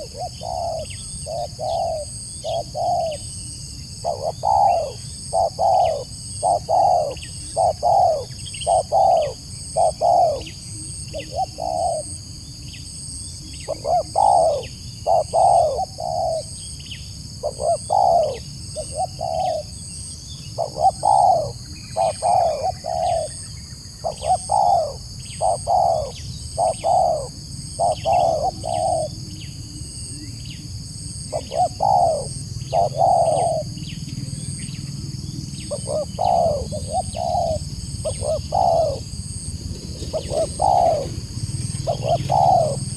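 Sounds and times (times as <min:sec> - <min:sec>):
dove cooing: 0:00.0 - 0:12.2, 0:13.4 - 0:16.6, 0:17.4 - 0:19.9, 0:20.5 - 0:42.9.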